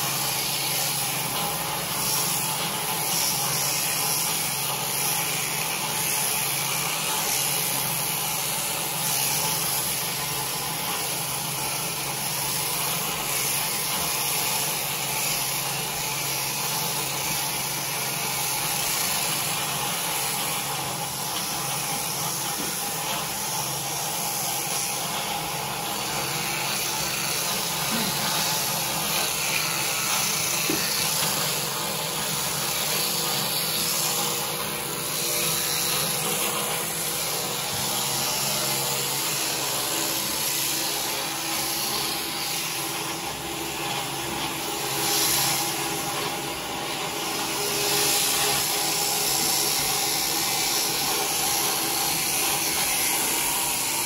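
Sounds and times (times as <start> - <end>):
electric shears clipping fleece: 0.0 - 54.0.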